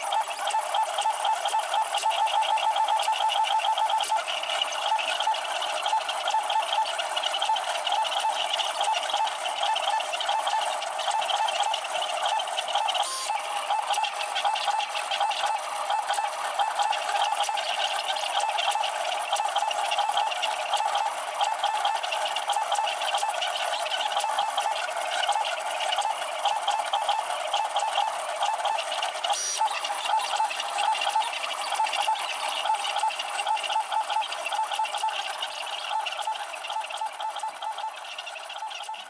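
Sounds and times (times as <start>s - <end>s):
stepper motors whirring: 0.0s - 39.0s.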